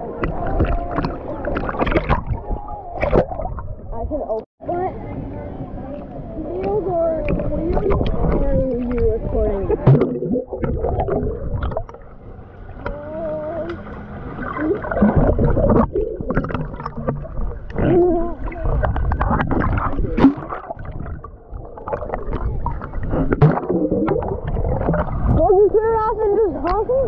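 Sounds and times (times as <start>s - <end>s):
muffled voices through water: 0.0s - 27.0s
underwater rumble and gurgle: 0.0s - 27.0s.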